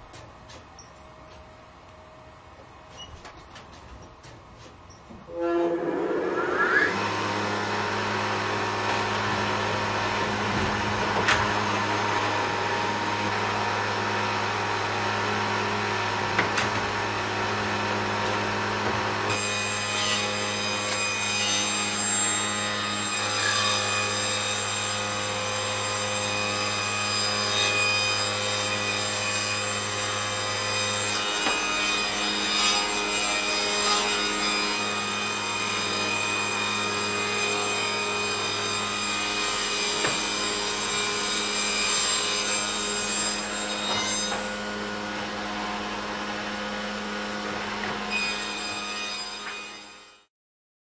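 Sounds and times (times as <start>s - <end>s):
sawmill saw humming: 5.3s - 50.0s.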